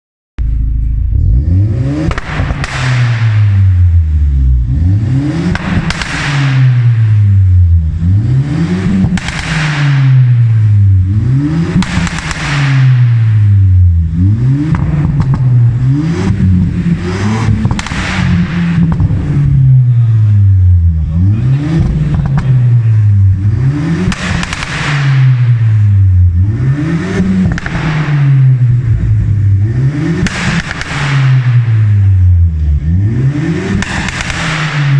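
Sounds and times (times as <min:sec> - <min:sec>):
car engine revving: 0:00.4 - 0:34.9
exhaust crackles and pops: 0:00.4 - 0:34.9.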